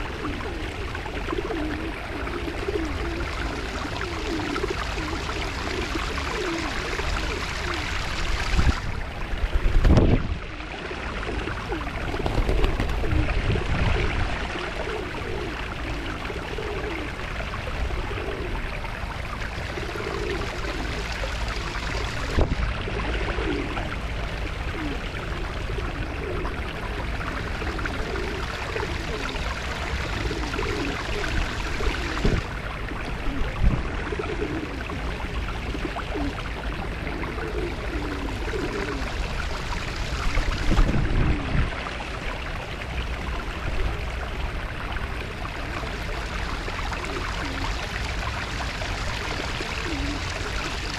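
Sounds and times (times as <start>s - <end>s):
pigeons cooing: 0.0s - 41.9s, 43.2s - 50.9s.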